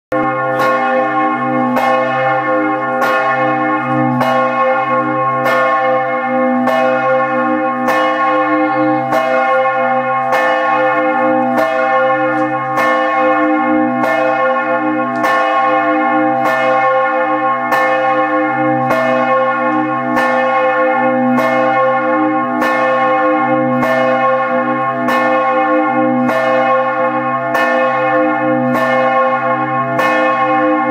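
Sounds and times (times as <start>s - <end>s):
church bell ringing: 0.1s - 30.9s.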